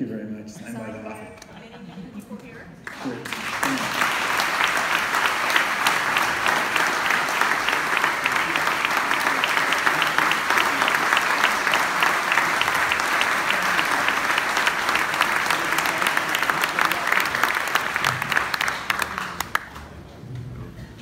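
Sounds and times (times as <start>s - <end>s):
audience applauding: 2.8s - 20.1s.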